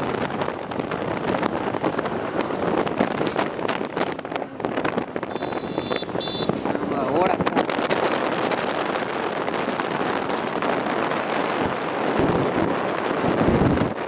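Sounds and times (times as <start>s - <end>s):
road and engine noise: 0.0s - 14.0s
wind buffeting microphone: 0.0s - 14.0s.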